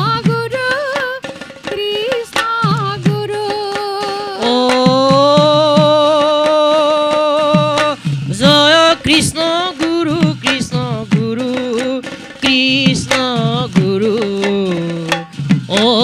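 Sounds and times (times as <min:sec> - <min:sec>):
hand drums: 0:00.0 - 0:16.0.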